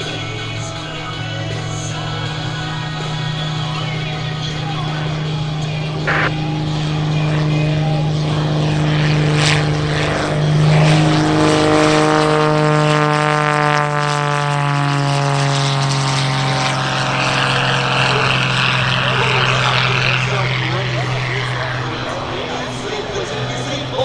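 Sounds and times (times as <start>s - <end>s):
biplane engine droning past: 0.0s - 24.0s.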